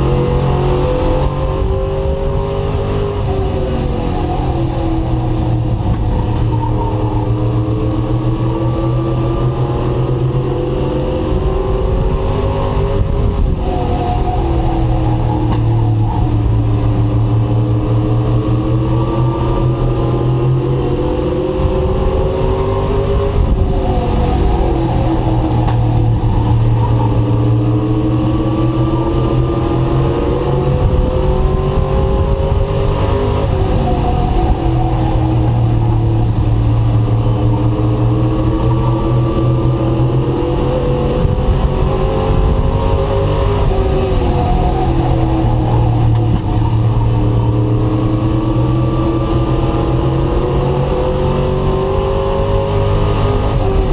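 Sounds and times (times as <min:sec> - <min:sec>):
race truck engine: 0:00.0 - 0:53.9.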